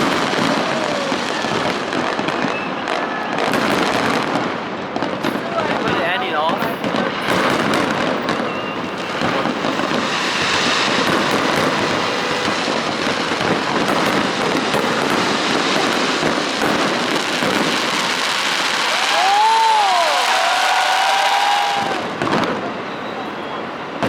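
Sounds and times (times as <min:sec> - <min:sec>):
fireworks crackling and popping: 0:00.0 - 0:24.0.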